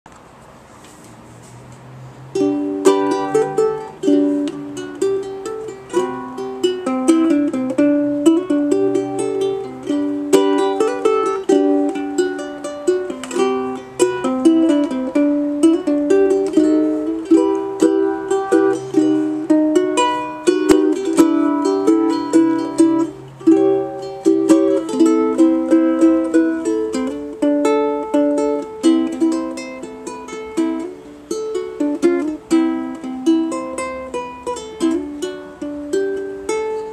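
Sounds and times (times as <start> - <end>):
ukulele plucked melody: 2.3 - 36.9.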